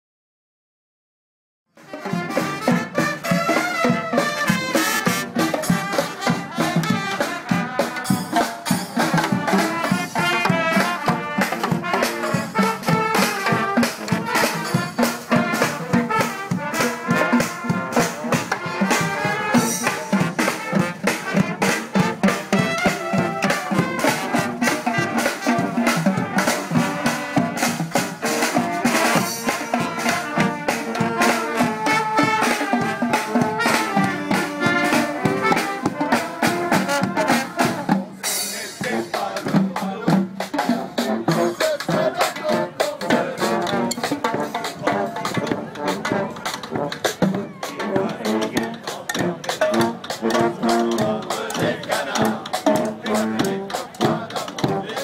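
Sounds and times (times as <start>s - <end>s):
brass band playing lively tune: 1.7s - 55.0s
bass drum and snare beat: 1.8s - 55.0s.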